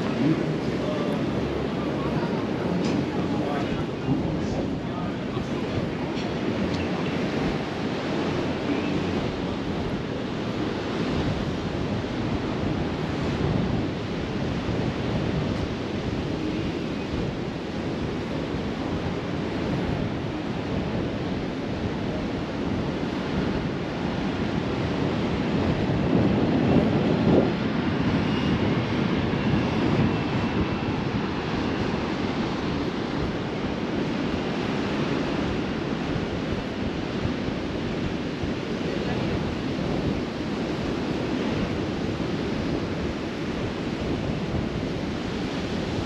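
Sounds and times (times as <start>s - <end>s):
surf washing onto beach: 0.0s - 46.0s
wind buffeting microphone: 0.0s - 46.0s.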